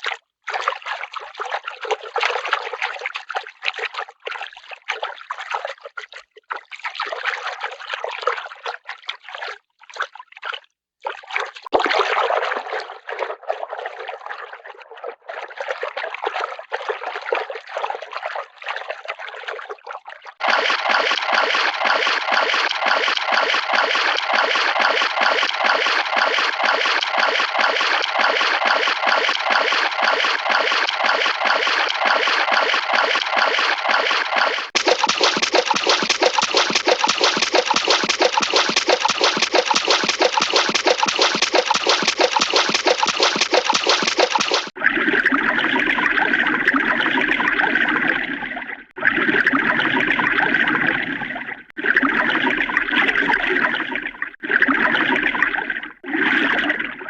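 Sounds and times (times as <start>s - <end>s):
cartoon water running and splashing: 0.0s - 57.0s.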